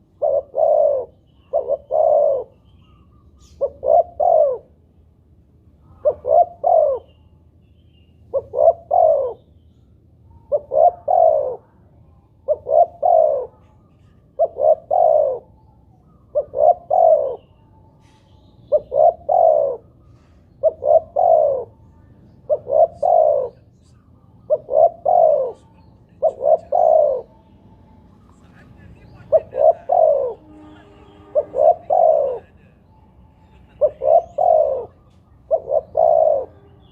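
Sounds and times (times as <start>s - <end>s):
dove cooing: 0.0s - 4.8s, 5.8s - 7.3s, 8.3s - 9.5s, 10.3s - 23.8s, 24.4s - 27.9s, 28.5s - 32.7s, 33.4s - 36.9s.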